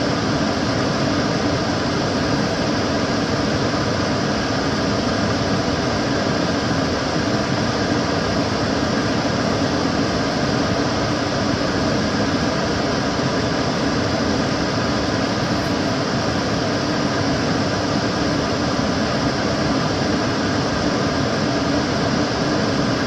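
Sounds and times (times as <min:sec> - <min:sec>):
extractor fan running: 0:00.0 - 0:23.0.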